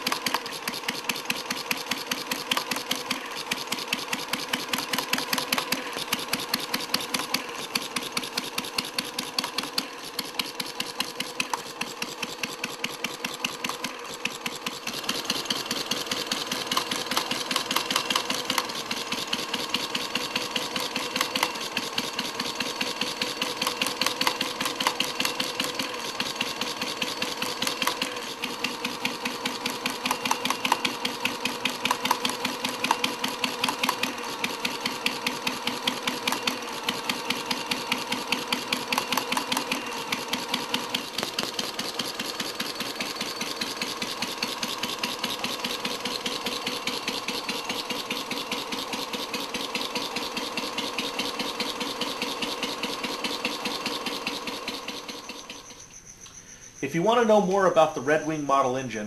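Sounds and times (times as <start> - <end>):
small gasoline engine clattering: 0.0 - 56.0.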